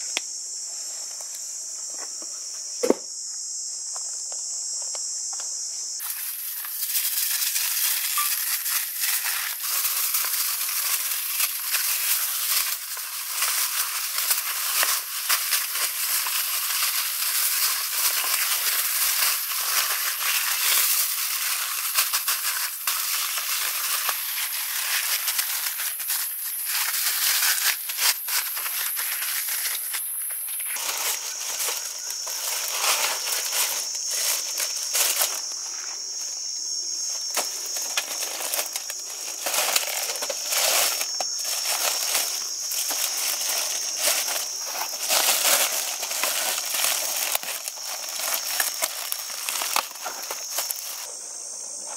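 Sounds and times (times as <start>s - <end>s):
aluminium foil crinkling: 6.0s - 35.7s, 37.1s - 51.1s.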